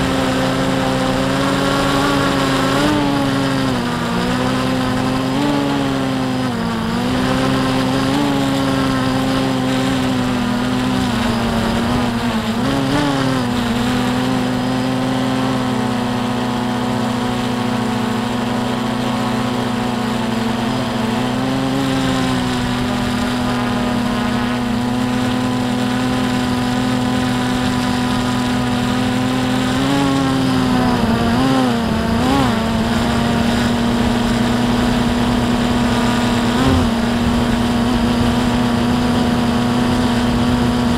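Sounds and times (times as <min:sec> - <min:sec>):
drone motors humming: 0:00.0 - 0:40.9.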